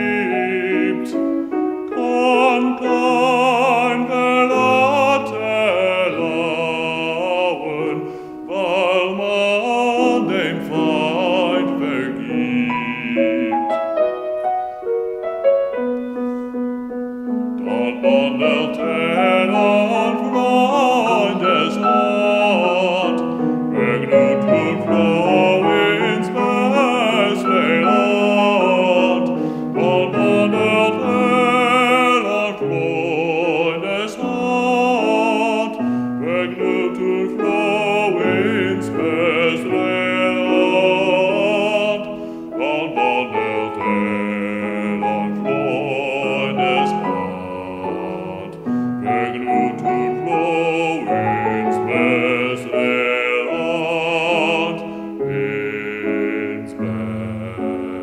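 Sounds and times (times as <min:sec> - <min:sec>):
man singing classically: 0:00.0 - 0:13.9, 0:17.6 - 0:58.0
piano: 0:00.0 - 0:58.0.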